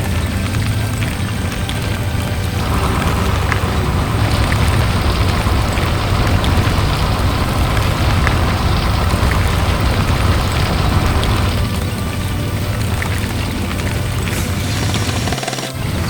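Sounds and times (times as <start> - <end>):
gritty hissing noise: 0.0 - 16.0
heavy vehicle engine rumble: 0.0 - 16.0.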